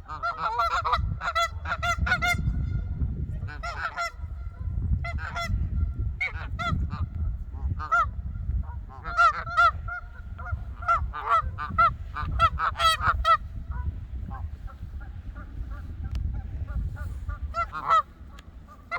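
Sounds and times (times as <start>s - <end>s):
geese honking: 0.0s - 18.9s
steady low rumble: 0.0s - 18.9s.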